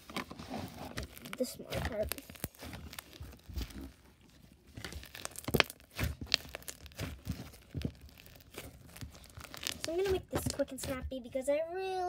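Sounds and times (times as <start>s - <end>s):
slime squeezing sticky crackles: 0.0s - 11.0s.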